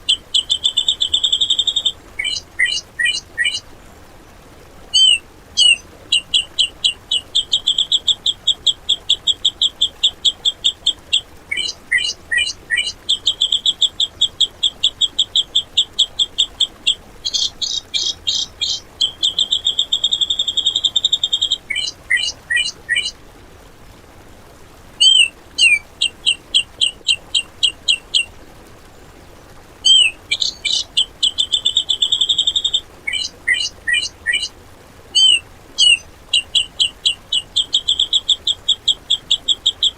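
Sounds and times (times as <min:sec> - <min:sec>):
bird rattling song: 0:00.0 - 0:03.6, 0:04.9 - 0:23.1, 0:25.0 - 0:28.3, 0:29.8 - 0:34.5, 0:35.2 - 0:39.9.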